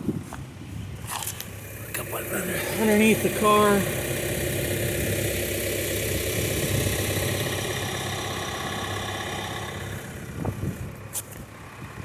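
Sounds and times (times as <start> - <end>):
vehicle engine idling: 0.4 - 12.0.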